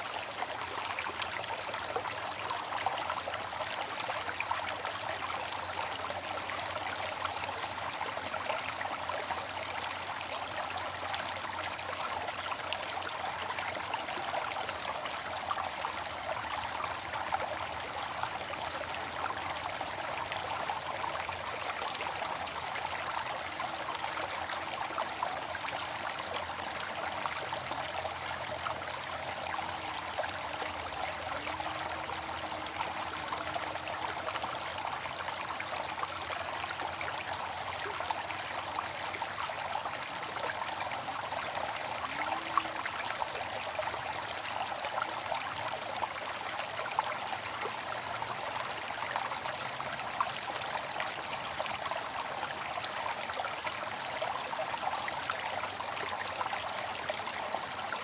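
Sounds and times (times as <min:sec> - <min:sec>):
water fountain splashing: 0:00.0 - 0:58.0.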